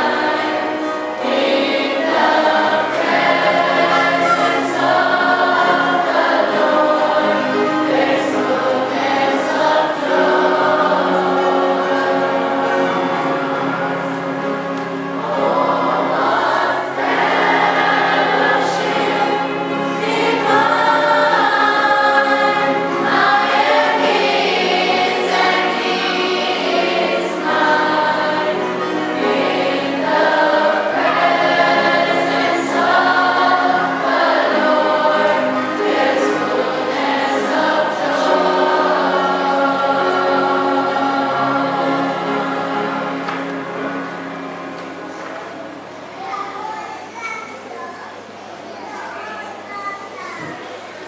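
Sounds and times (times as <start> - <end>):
choir singing: 0.0 - 46.1.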